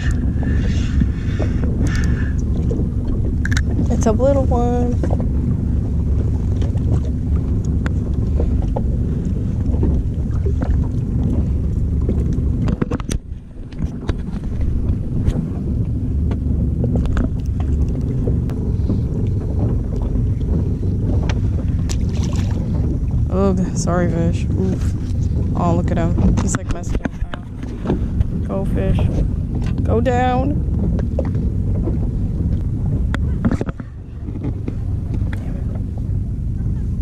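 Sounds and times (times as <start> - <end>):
low wind rumble: 0.0 - 37.0.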